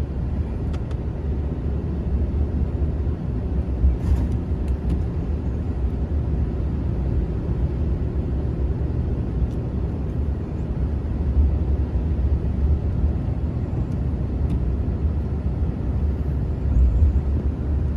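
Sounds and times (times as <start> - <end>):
car driving rumble: 0.0 - 17.9.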